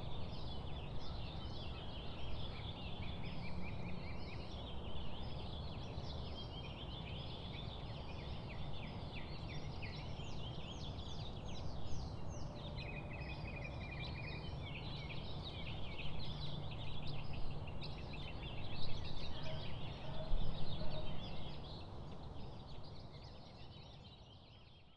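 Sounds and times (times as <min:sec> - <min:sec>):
small birds chirping and trilling: 0:00.0 - 0:24.9.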